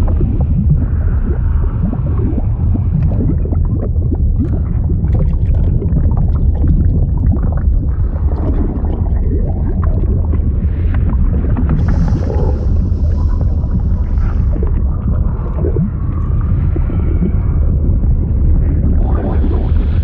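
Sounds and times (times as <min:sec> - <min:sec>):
deep liquid bubbling and gurgling: 0:00.0 - 0:20.0.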